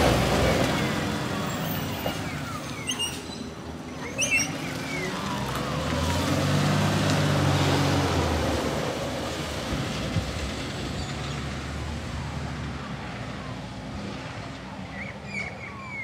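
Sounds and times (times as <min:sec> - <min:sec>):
garbage truck diesel engine: 0:00.0 - 0:14.8.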